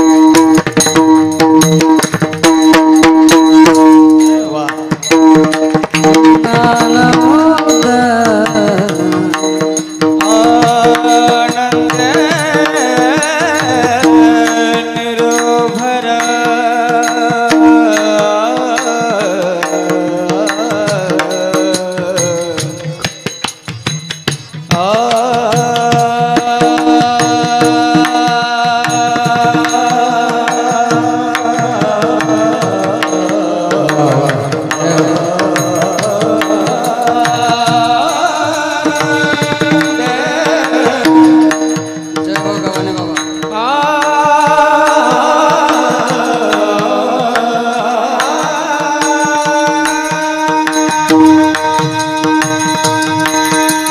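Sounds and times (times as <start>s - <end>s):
high solo voice singing: 2.8s - 23.1s, 24.7s - 53.9s.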